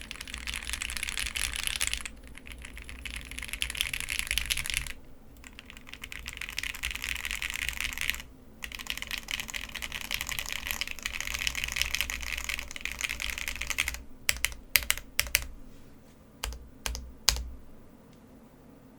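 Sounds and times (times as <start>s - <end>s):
fast typing on mechanical keyboard: 0.0s - 15.6s, 16.4s - 17.6s.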